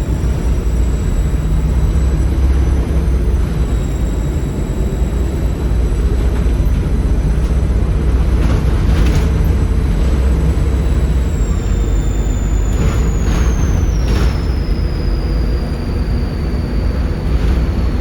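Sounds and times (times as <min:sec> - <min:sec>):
high turbo whistle: 0:00.0 - 0:07.7, 0:09.9 - 0:18.0
bus diesel engine running hard: 0:00.0 - 0:18.0.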